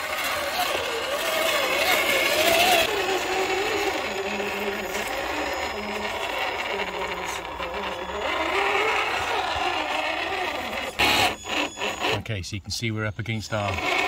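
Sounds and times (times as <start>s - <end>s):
electric motor whining: 0.0s - 12.3s, 13.4s - 14.0s.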